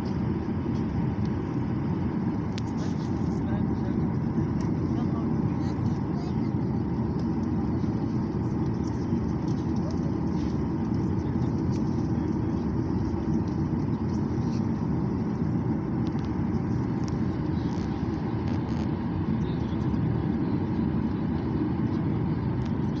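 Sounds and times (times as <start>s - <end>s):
airplane engines running: 0.0s - 23.0s.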